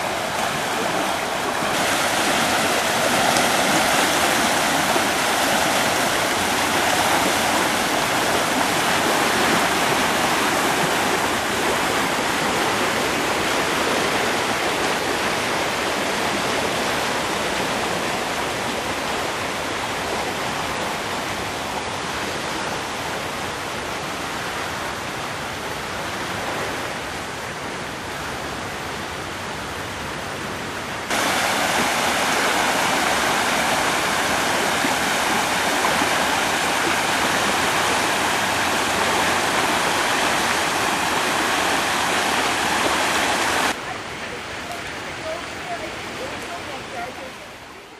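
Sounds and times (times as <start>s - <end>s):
flooded creek rushing: 0.0s - 47.9s.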